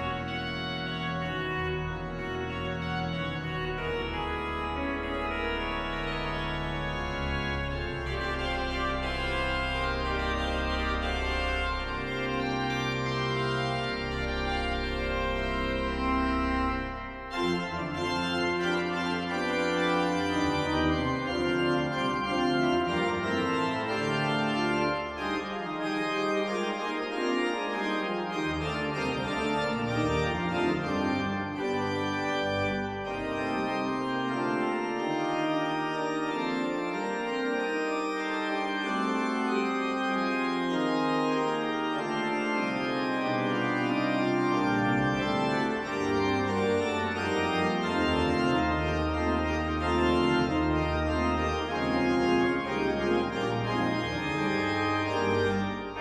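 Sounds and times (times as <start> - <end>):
deep organ pedal bass notes: 0.0 - 56.0
pipe organ fanfare chords: 0.0 - 56.0.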